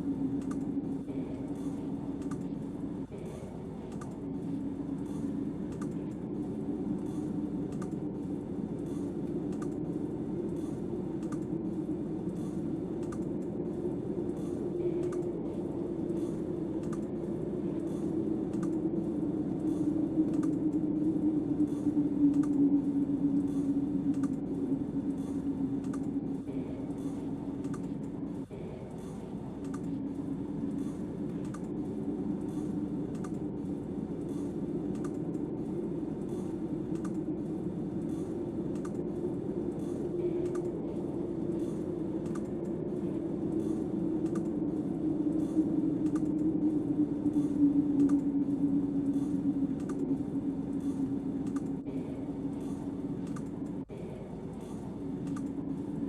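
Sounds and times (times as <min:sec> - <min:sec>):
snowstorm wind drone: 0:00.0 - 0:56.0
light regular clicks: 0:00.3 - 0:02.7, 0:03.9 - 0:06.3, 0:07.0 - 0:08.1, 0:08.8 - 0:13.6, 0:14.3 - 0:15.4, 0:16.0 - 0:53.9, 0:54.5 - 0:56.0.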